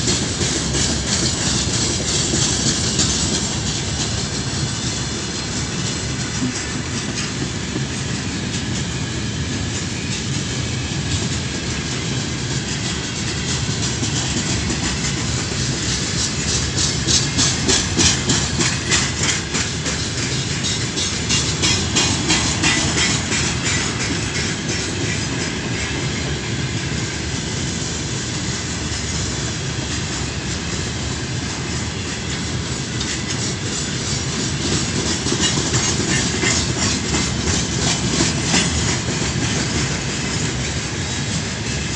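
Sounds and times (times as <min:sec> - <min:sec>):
clickety-clack over rail joints: 0:00.0 - 0:41.9
freight train wheels rumbling: 0:00.0 - 0:41.9.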